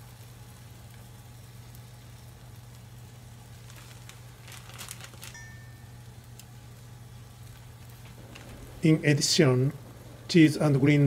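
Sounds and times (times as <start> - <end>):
egg sizzling in oil: 0.0 - 10.4
steady low hum: 0.0 - 11.0.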